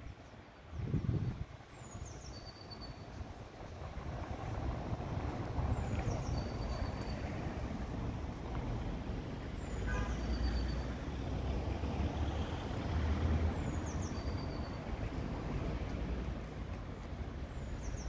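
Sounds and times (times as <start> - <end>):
street background rumble: 3.0 - 18.0.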